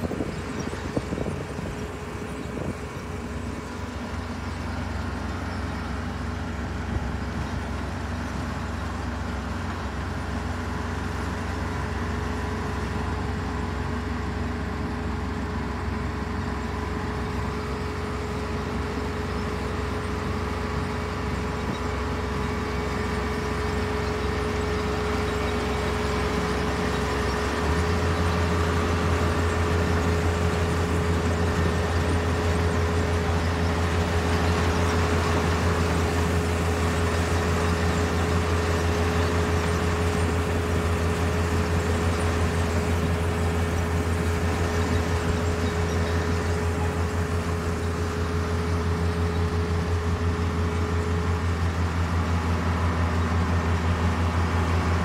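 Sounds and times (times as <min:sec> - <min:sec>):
diesel engine low hum: 0:00.0 - 0:55.0.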